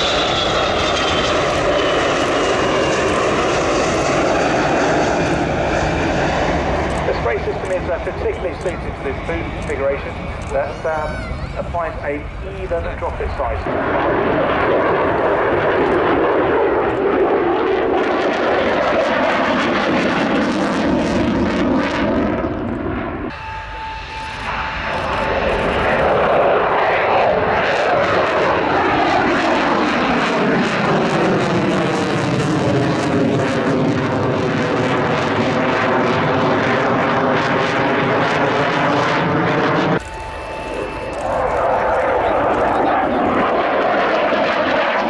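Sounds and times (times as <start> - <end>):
jet engine passing overhead: 0.0 - 45.0.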